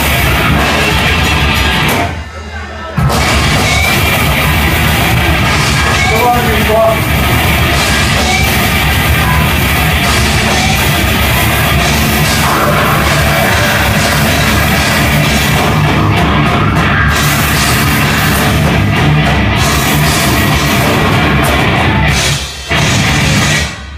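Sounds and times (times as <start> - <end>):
heavy rock music: 0.0 - 23.9.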